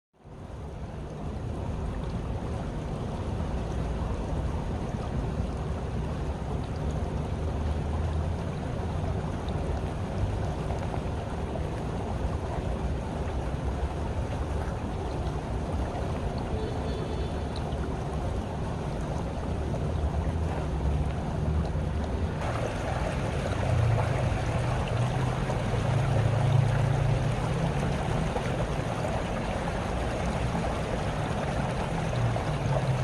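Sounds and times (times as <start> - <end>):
small stream flowing: 0.2 - 33.0.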